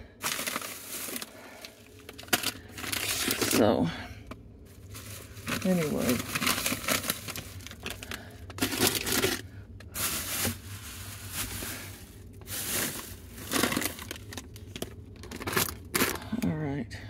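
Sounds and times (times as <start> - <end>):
plastic snack bags crinkling: 0.1 - 16.4.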